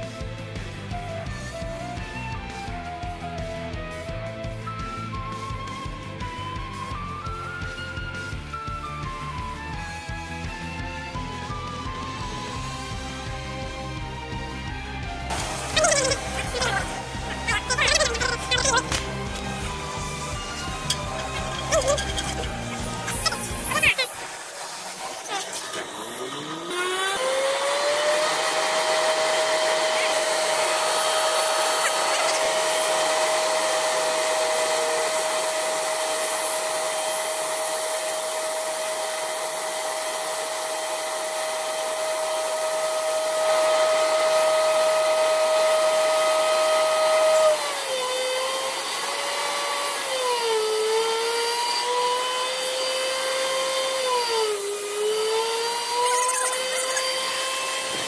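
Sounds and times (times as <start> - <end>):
air compressor motor whine: 0.0 - 58.0.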